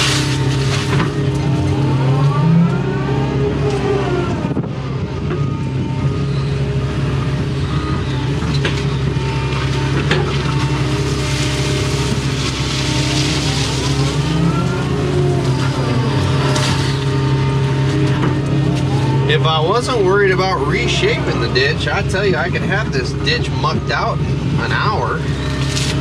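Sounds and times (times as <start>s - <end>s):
excavator diesel engine running: 0.0s - 26.0s
hydraulic whine: 0.0s - 26.0s.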